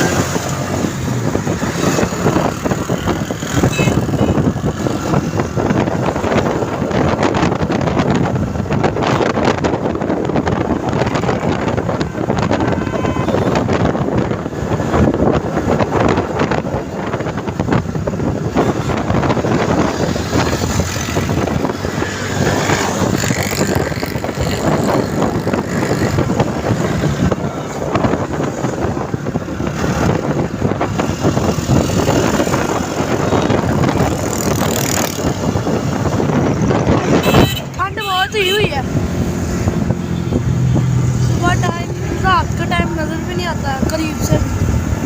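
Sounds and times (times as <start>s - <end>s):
motorcycle engine and road noise: 0.0s - 45.0s
wind rushing over microphone: 0.0s - 45.0s.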